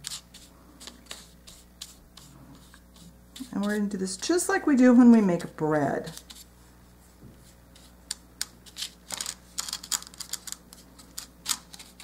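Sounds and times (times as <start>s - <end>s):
brush scratching and tapping: 0.0s - 12.0s
low steady hum: 0.0s - 12.0s.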